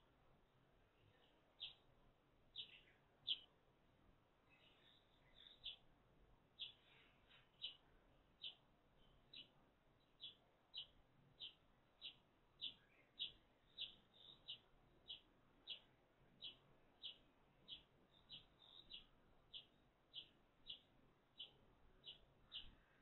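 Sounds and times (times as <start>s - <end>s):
sparrow chirping: 1.1s - 1.9s, 2.5s - 3.5s, 4.5s - 5.9s, 6.5s - 23.0s.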